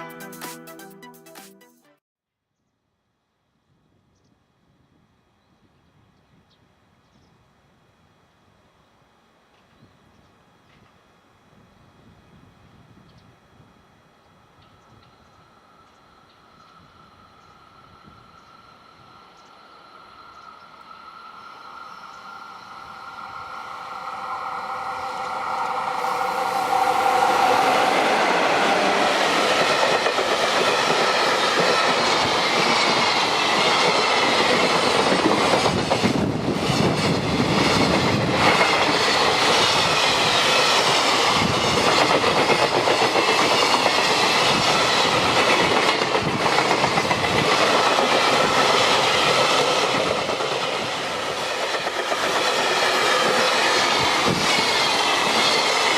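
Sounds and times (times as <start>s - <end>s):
freight train passing: 10.4s - 55.9s.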